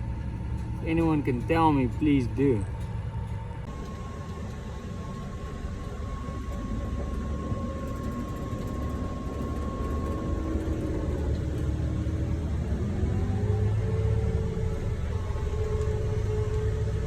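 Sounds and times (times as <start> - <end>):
large engine rumble: 0.0 - 17.0
thin steady whine: 0.0 - 17.0.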